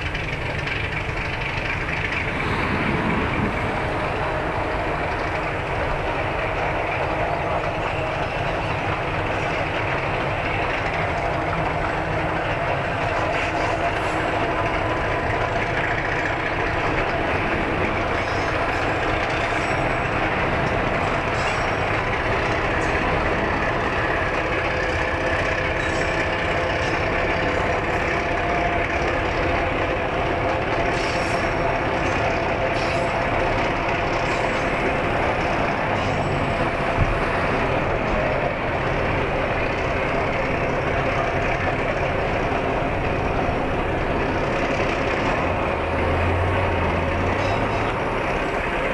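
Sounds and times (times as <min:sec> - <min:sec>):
engine hum: 0:00.0 - 0:48.9
train wheels rumbling on rail: 0:00.0 - 0:48.9.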